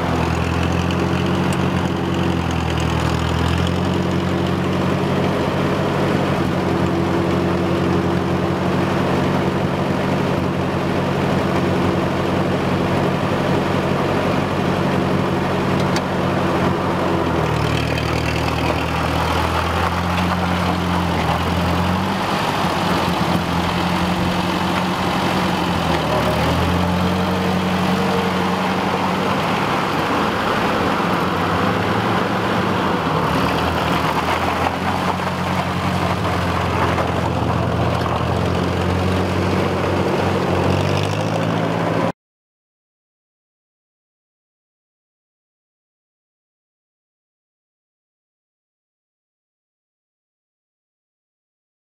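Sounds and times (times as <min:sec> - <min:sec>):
tractor engine running: 0:00.0 - 0:42.1.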